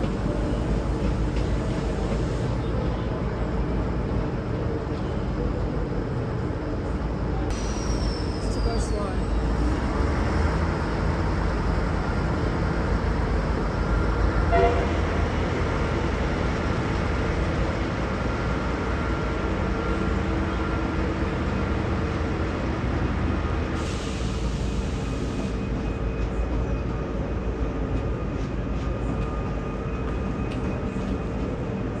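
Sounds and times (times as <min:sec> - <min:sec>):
diesel train rumbling: 0:00.0 - 0:32.0.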